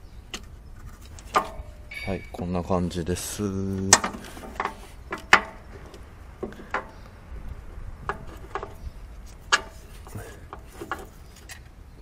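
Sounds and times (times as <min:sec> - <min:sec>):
sharp clicks and knocks: 0:00.3 - 0:02.4, 0:03.8 - 0:11.7.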